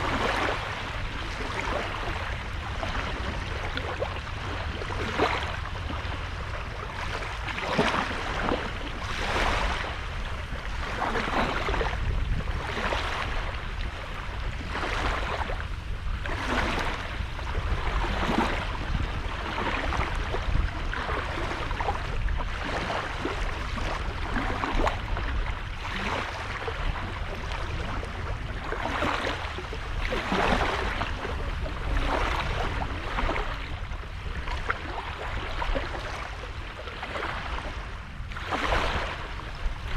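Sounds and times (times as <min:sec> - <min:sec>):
small waves washing onto beach: 0:00.0 - 0:39.9.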